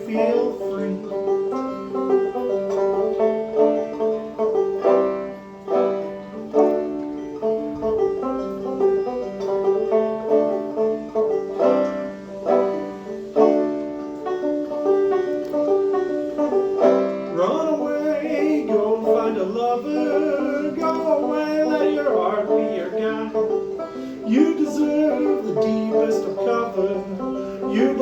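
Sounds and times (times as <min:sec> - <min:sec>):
plucked acoustic string instrument: 0:00.0 - 0:28.0.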